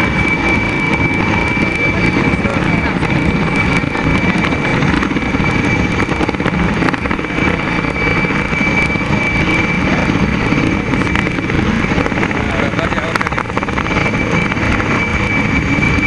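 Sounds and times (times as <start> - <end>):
helicopter rotor beat: 0.0 - 16.0
turbine whine: 0.0 - 16.0.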